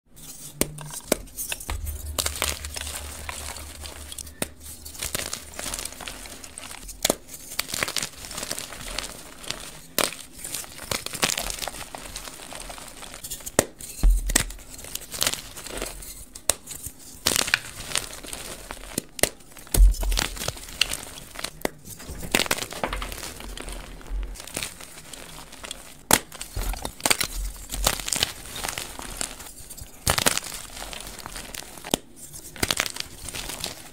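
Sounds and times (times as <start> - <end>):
chalk crunching: 0.2 - 14.0, 14.6 - 33.9
chalk pieces cracking: 0.2 - 33.9.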